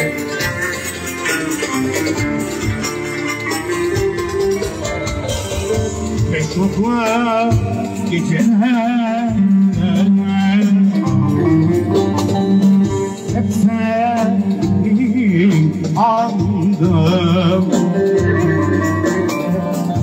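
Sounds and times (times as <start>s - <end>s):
man singing with vibrato: 0.0s - 4.9s, 5.6s - 20.0s
drum beat: 0.0s - 20.0s
keyboard backing chords: 0.0s - 20.0s.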